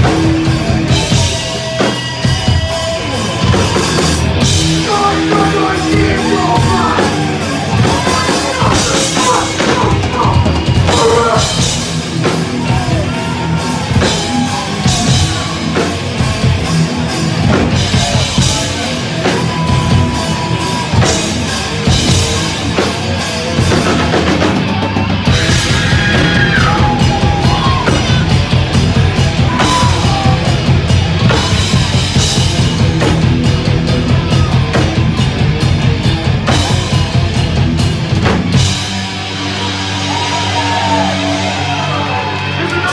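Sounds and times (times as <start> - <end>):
heavy rock band playing: 0.0 - 42.9.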